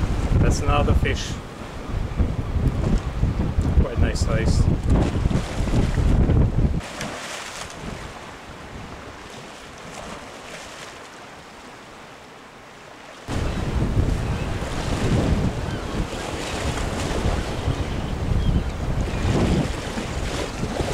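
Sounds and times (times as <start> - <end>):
wind buffeting microphone: 0.0 - 10.2, 13.3 - 20.9
surf washing against rocks: 0.0 - 20.9.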